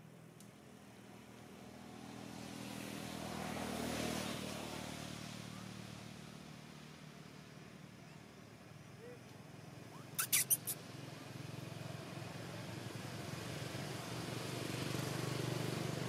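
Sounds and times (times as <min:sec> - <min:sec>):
vehicle passing by: 0:00.7 - 0:08.8, 0:09.5 - 0:16.0.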